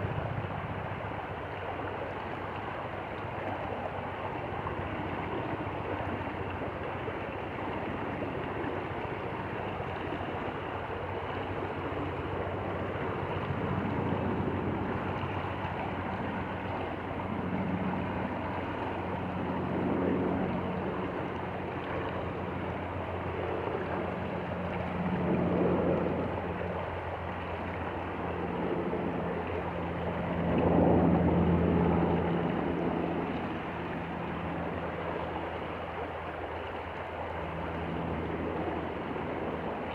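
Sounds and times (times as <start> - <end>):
stream water flowing: 0.0 - 30.6, 31.2 - 39.9.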